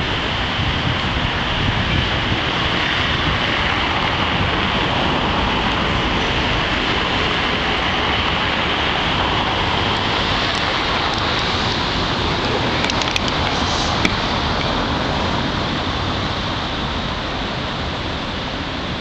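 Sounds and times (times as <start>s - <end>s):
city background rushing noise: 0.0s - 19.0s.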